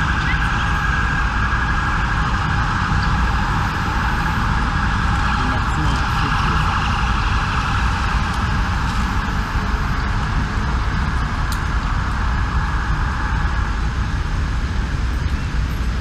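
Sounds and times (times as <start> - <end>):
distant emergency sirens: 0.0 - 16.0
low rumble of city traffic: 0.0 - 16.0.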